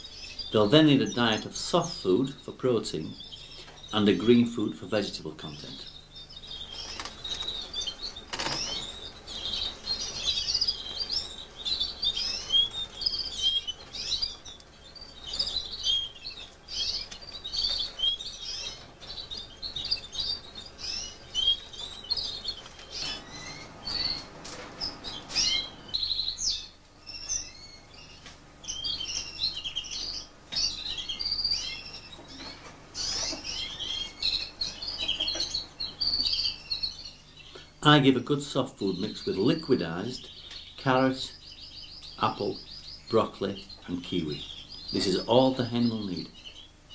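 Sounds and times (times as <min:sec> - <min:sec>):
canaries chirping and twittering: 0:00.0 - 0:46.9.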